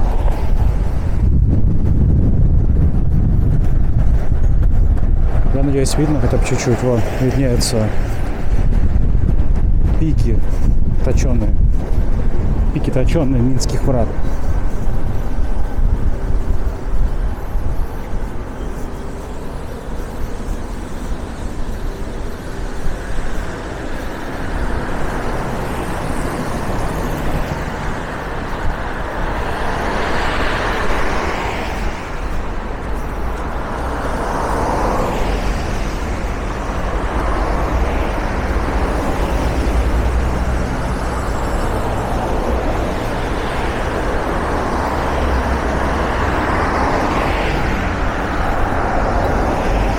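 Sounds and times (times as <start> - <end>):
cars passing: 0.0 - 49.9
low rumble of engines: 0.0 - 49.9.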